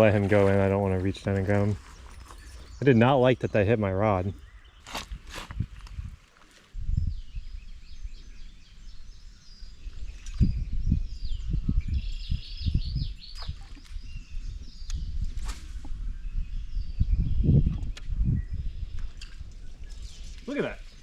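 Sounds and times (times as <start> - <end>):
songbirds chirping and warbling: 0.0 - 21.0.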